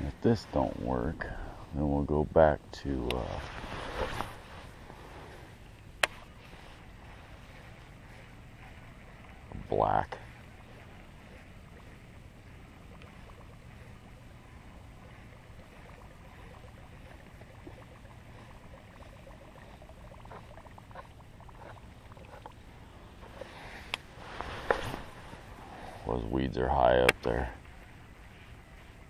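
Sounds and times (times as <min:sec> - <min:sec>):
low rumble of water: 0:00.0 - 0:29.0
wind: 0:00.0 - 0:29.0.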